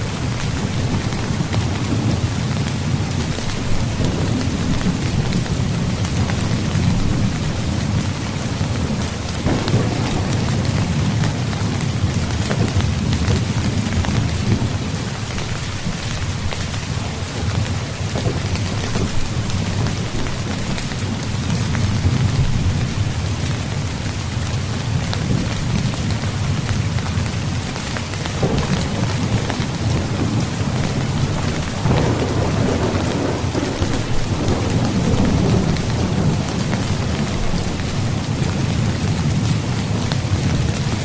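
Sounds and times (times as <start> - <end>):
low rolling thunder: 0.0 - 24.1, 24.7 - 41.0
rain pattering on a tent: 0.0 - 41.0.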